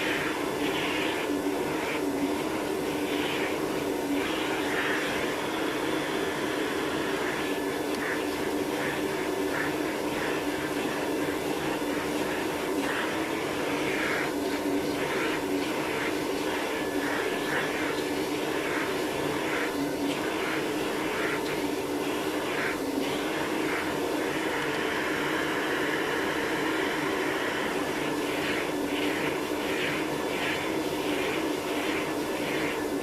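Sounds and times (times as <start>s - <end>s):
vacuum cleaner hissing: 0.0s - 33.0s.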